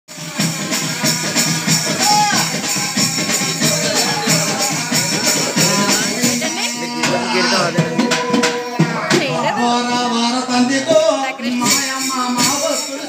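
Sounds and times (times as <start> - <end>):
frame drums beaten: 0.1 - 13.0
jingling percussion: 0.1 - 13.0
voices: 0.2 - 13.0.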